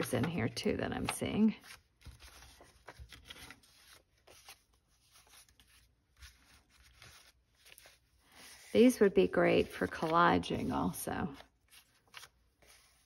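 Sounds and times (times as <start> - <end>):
paper sheets rustling: 0.0 - 13.0.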